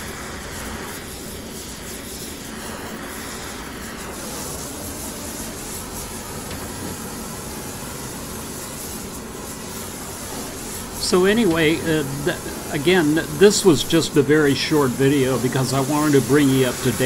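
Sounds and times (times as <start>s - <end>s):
workshop noise roaring: 0.0s - 17.0s.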